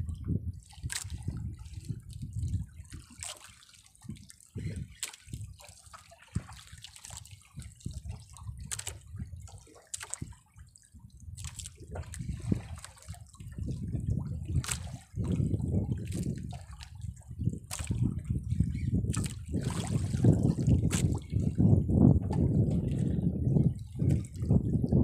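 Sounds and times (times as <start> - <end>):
water lapping against boat hull: 0.0 - 25.0
water slaps and splashes: 0.0 - 25.0.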